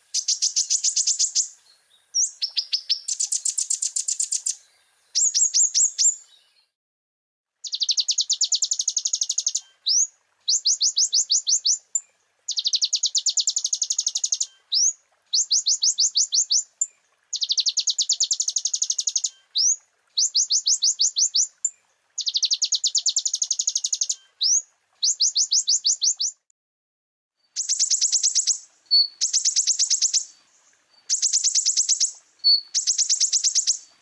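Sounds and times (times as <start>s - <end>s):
bird singing fast trills: 0.0s - 6.6s, 7.6s - 26.4s, 27.5s - 34.0s.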